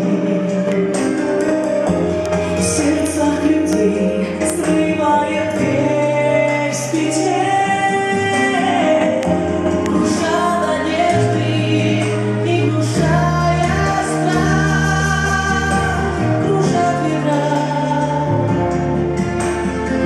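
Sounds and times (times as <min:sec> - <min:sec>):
woman singing pop song: 0:00.0 - 0:19.2
bass and backing instruments: 0:00.0 - 0:20.0.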